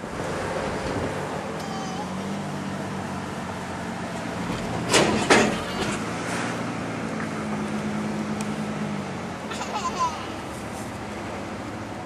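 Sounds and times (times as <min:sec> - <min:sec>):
car engine hum and road noise: 0:00.0 - 0:12.0.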